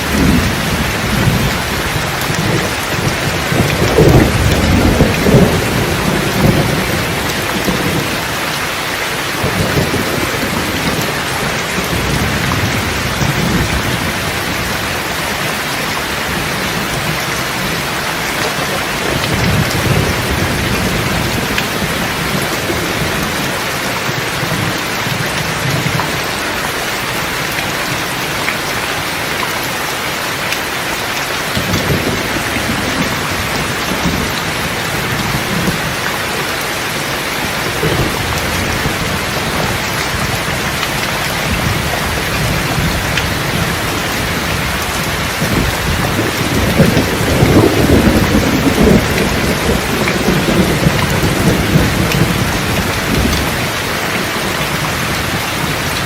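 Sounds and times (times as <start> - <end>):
thunder rolling: 0.0 - 15.3, 16.2 - 26.3, 31.5 - 56.0
heavy rain falling: 0.0 - 56.0.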